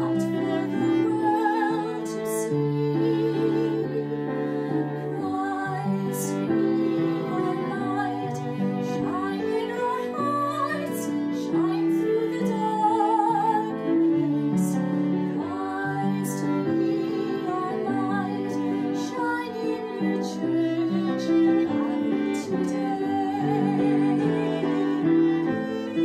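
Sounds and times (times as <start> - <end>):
grand piano: 0.0 - 26.0
violin: 0.0 - 26.0
woman singing a hymn: 0.0 - 26.0.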